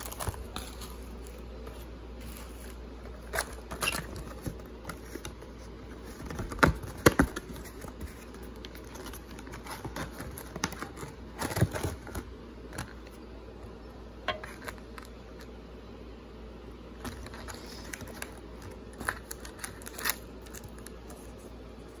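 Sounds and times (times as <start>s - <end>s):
crinkly rustle of card packs: 0.0s - 13.8s, 17.0s - 22.0s.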